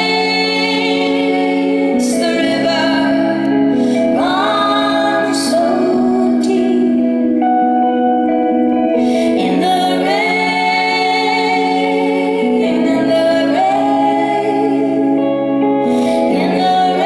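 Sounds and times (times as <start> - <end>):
women singing in harmony: 0.0 - 7.9, 9.0 - 17.0
electric guitar chords: 0.0 - 17.0.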